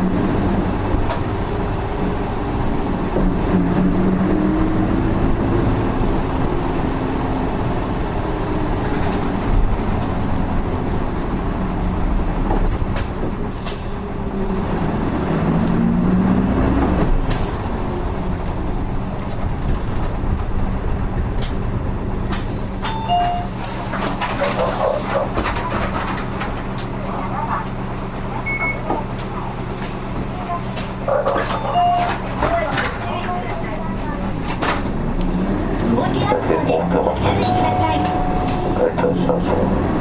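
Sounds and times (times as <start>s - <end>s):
bus engine from inside cabin: 0.0s - 40.0s.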